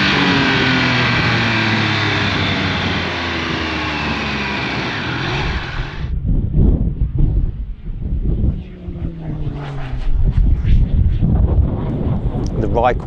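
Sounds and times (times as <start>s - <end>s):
motorcycle engine at high speed: 0.0s - 12.8s
gusty wind rumble on microphone: 0.0s - 13.0s
rushing wind: 0.0s - 13.0s.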